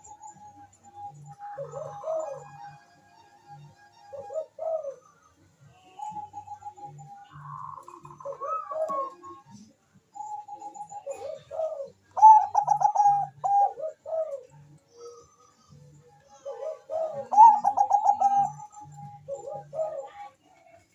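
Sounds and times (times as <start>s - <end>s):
dove cooing: 0.0s - 2.9s, 4.0s - 20.4s.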